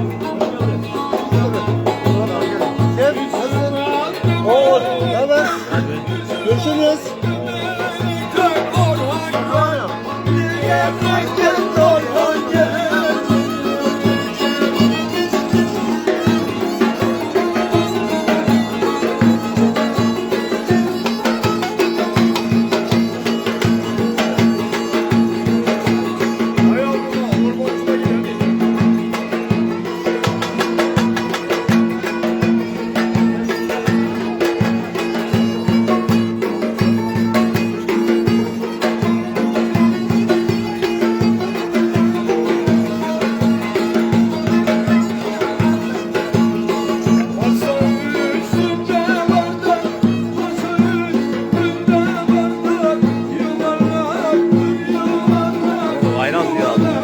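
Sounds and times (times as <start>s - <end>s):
bowed fiddle melody: 0.0s - 57.0s
steady drum beat: 0.0s - 57.0s.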